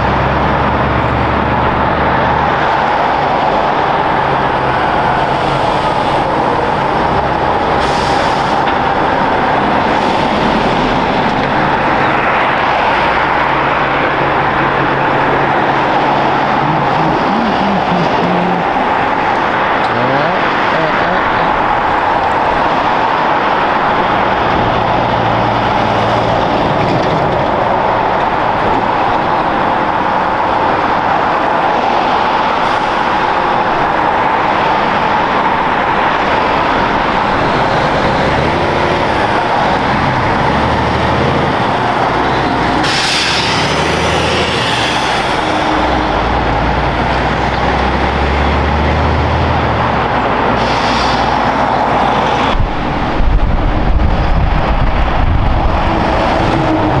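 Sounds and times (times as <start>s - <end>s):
diesel truck engines droning: 0.0s - 57.0s
traffic and tyre noise: 0.0s - 57.0s.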